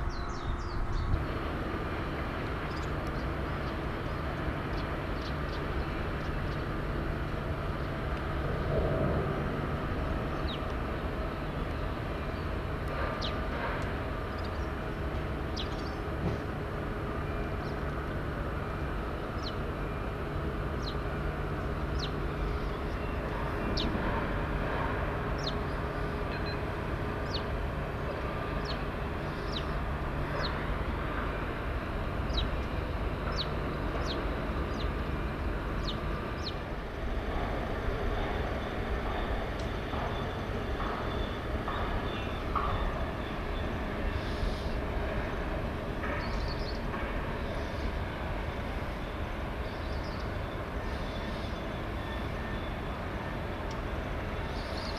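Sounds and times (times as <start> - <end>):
distant machinery hum: 0.0 - 54.9.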